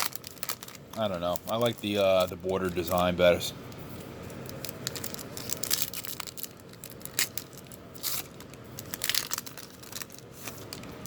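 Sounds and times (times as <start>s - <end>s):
foil wrappers crinkling and tearing: 0.0s - 11.0s.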